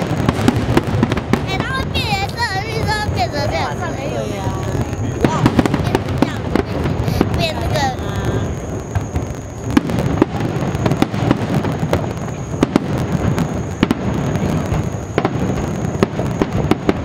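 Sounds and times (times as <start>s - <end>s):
distant rumbling booms: 0.0s - 17.0s
firework shells bursting: 0.0s - 17.0s.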